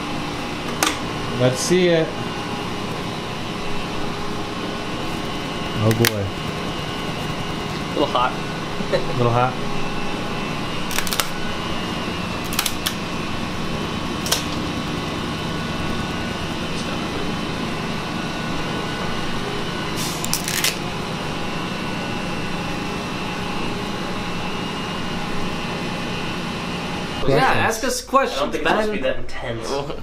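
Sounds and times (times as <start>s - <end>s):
electric fan humming: 0.0s - 30.0s.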